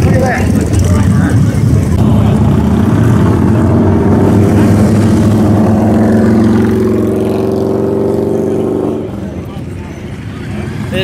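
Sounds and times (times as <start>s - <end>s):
motorcycles riding slowly past: 0.0s - 11.0s.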